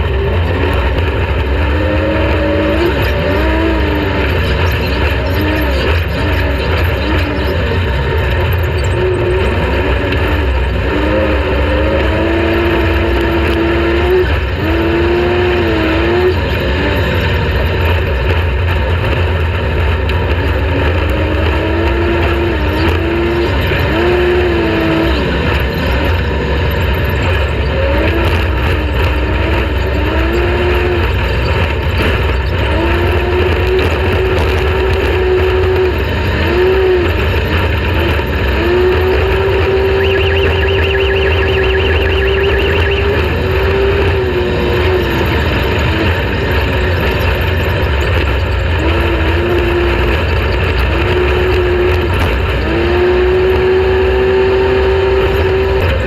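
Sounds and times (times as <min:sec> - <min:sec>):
constant low rumble: 0:00.0 - 0:56.0
race vehicle engine revving: 0:00.0 - 0:56.0.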